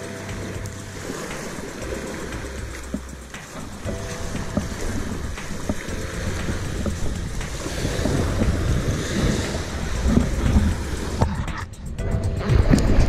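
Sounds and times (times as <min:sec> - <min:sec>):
small waves breaking on beach: 0:00.0 - 0:11.3
wind buffeting microphone: 0:00.0 - 0:13.0.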